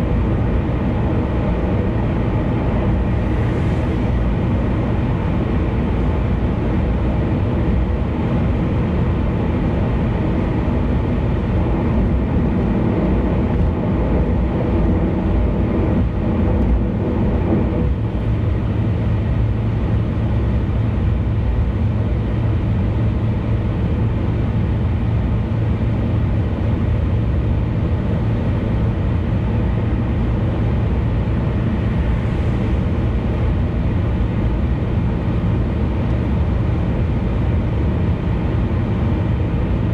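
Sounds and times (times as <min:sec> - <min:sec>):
car engine drone: 0:00.0 - 0:39.9
road and tyre noise: 0:00.0 - 0:39.9.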